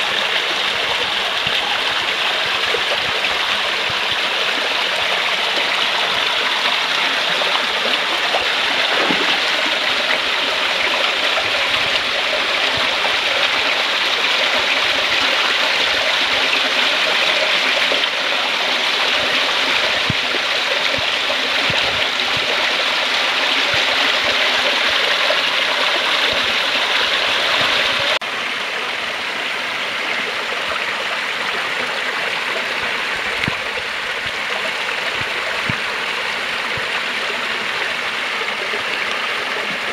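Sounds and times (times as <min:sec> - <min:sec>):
stream splashing over boulders: 0:00.0 - 0:39.9.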